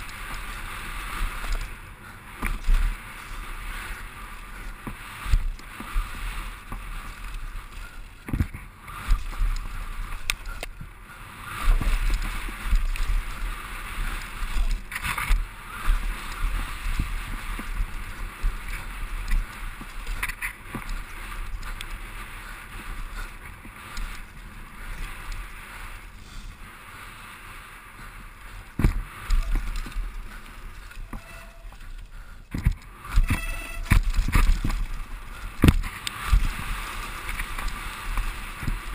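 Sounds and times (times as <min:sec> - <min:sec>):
bike knocking and rattling: 0:00.0 - 0:27.2, 0:27.9 - 0:38.9
rush of tyres and wind: 0:00.0 - 0:38.9.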